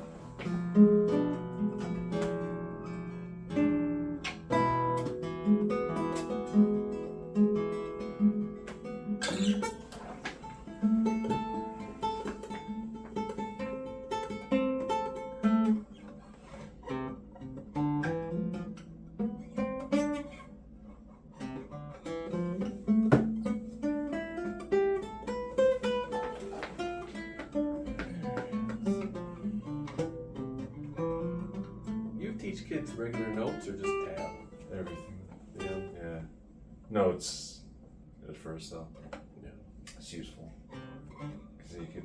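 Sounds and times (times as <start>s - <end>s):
acoustic guitar picking: 0.0s - 38.0s, 38.8s - 42.0s.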